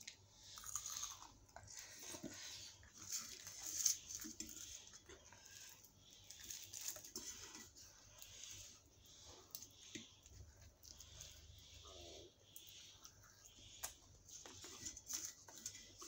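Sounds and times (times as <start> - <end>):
person chewing and crunching food: 0.0 - 16.0.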